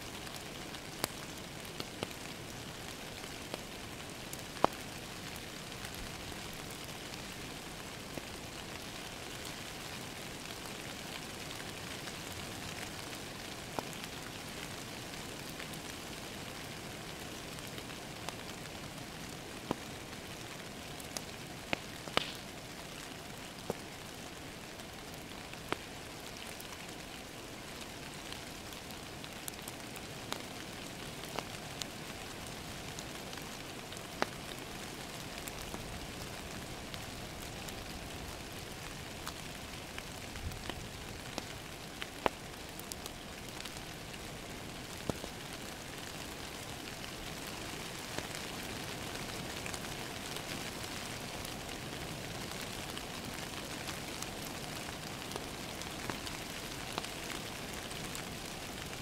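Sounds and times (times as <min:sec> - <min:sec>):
wood fire crackling and popping: 0:00.1 - 0:59.0.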